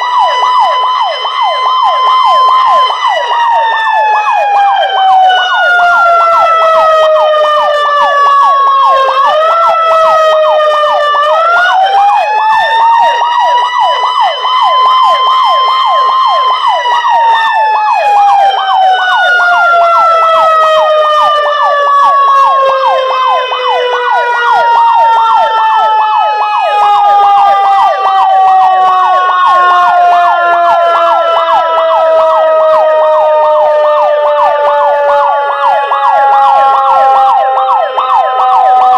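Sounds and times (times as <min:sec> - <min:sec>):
fire siren wailing: 0:00.0 - 0:38.9.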